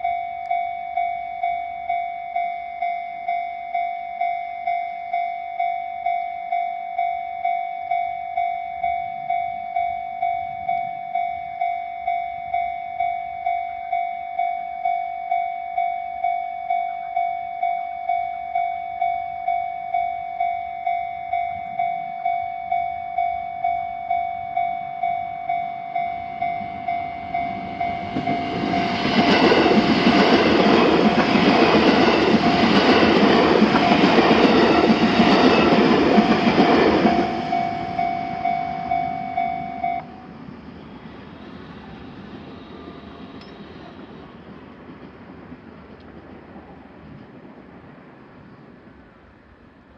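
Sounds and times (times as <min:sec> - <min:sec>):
level-crossing bell dinging: 0:00.0 - 0:40.3
train rumble and wheel noise: 0:00.0 - 0:49.9.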